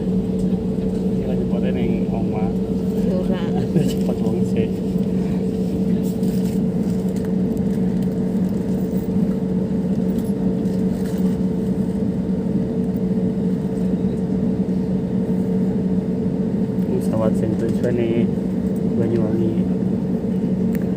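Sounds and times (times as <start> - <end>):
airliner cabin engine drone: 0.0 - 20.9.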